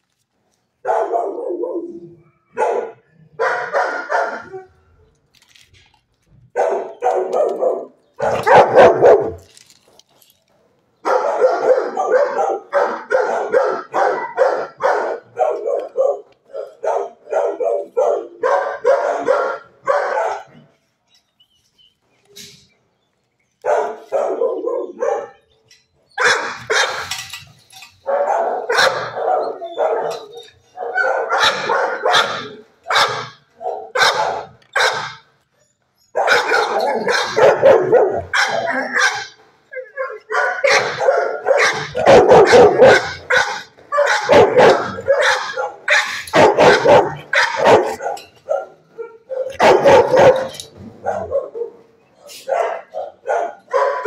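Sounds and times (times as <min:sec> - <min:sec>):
dogs barking: 0:00.8 - 0:04.8, 0:06.5 - 0:09.5, 0:11.0 - 0:20.7, 0:23.6 - 0:25.5, 0:26.2 - 0:35.3, 0:36.1 - 0:54.0.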